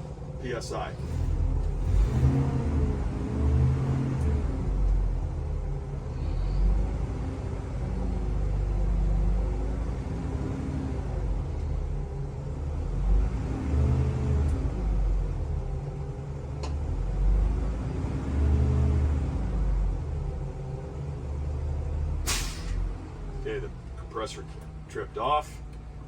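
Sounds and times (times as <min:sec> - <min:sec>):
bus engine idling: 0:00.0 - 0:03.0, 0:03.7 - 0:13.2, 0:14.5 - 0:17.8, 0:19.4 - 0:26.0.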